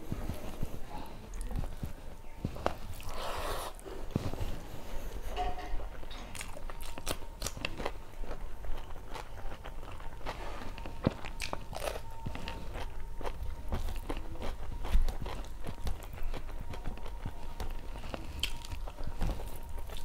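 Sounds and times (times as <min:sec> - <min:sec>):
person chewing and crunching: 0:00.0 - 0:20.0.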